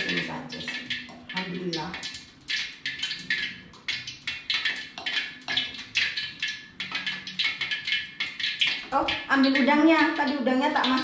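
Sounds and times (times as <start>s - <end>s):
spoon stirring wet batter: 0.0s - 11.0s.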